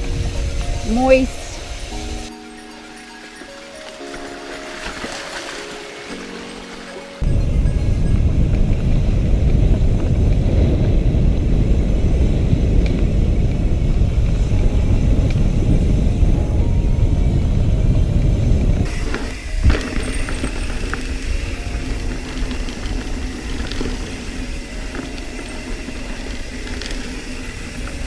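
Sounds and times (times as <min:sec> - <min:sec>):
bike tyres on dirt trail: 0:00.0 - 0:28.0
wind buffeting microphone: 0:00.0 - 0:28.0.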